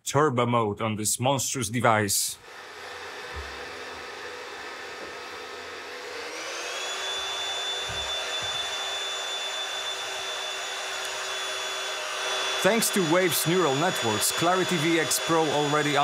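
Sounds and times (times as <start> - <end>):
vacuum cleaner motor whine: 2.4 - 16.0.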